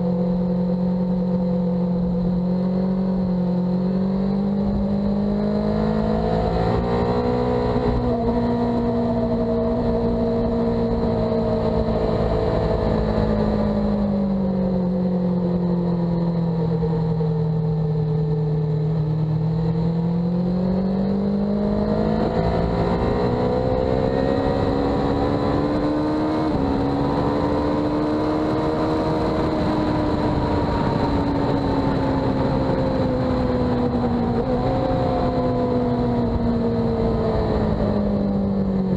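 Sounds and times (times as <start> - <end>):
sport bike engine: 0.0 - 38.9.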